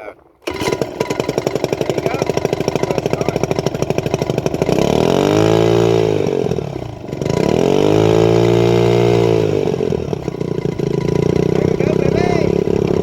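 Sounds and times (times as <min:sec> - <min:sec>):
outboard engine running: 0:00.0 - 0:13.0.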